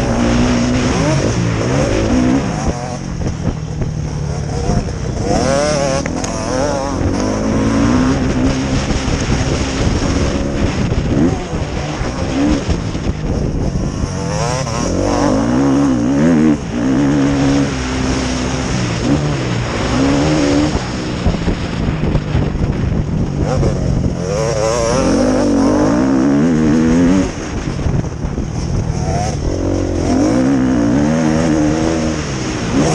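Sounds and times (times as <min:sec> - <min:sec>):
motocross engines racing: 0:00.0 - 0:32.9.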